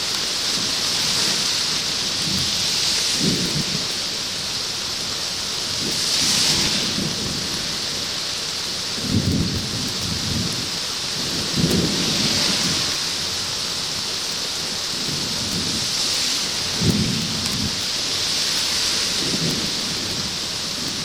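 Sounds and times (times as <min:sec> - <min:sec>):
rain on plastic sheet: 0:00.0 - 0:21.0
low thunder rumbles: 0:00.4 - 0:08.1, 0:08.8 - 0:14.0, 0:14.6 - 0:21.0.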